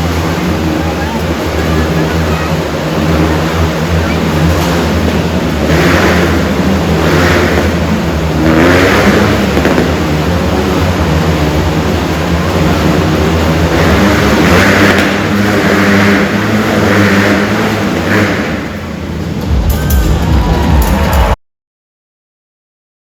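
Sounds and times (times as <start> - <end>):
motorcycle engines revving: 0.0 - 21.4.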